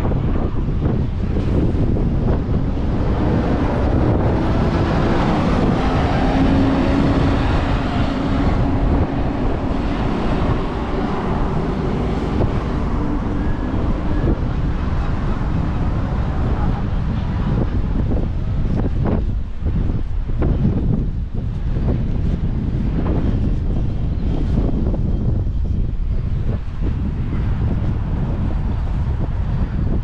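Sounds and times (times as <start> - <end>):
strong wind buffeting microphone: 0.0 - 30.0
vehicle engine hum: 0.0 - 30.0.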